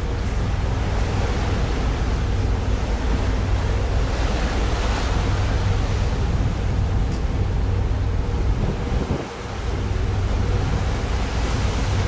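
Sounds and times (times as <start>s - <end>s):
sea rushing: 0.0s - 12.0s
wind: 0.0s - 12.0s.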